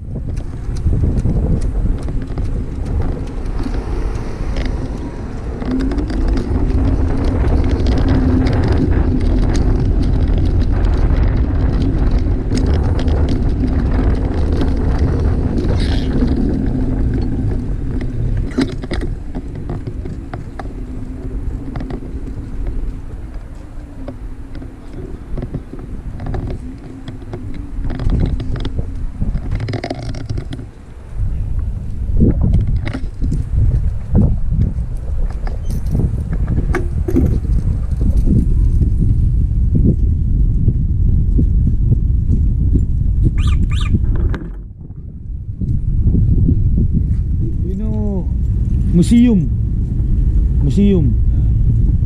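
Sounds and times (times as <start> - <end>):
wind rumbling on microphone: 0.0 - 52.0.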